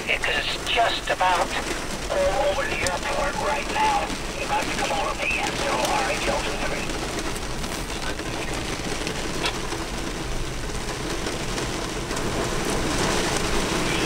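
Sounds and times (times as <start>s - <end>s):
heavy rain: 0.0s - 14.0s
wind: 0.0s - 14.0s.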